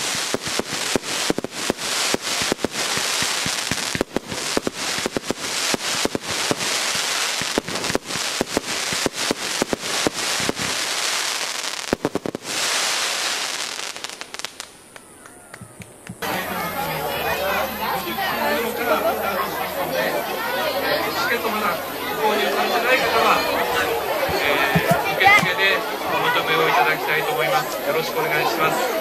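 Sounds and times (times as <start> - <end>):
fireworks crackling and popping: 0.0 - 16.3, 19.5 - 29.0.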